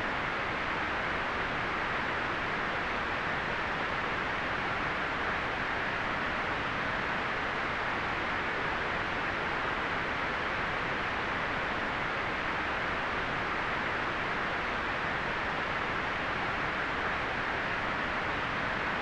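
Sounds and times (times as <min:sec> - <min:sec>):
steady white noise hiss: 0:00.0 - 0:19.0.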